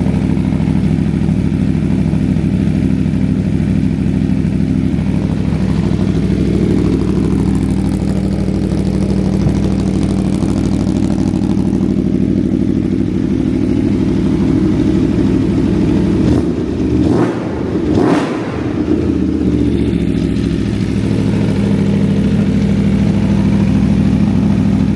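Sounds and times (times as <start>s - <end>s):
engine throttle blips: 0.0s - 24.9s
motorcycle engine idling: 0.0s - 24.9s.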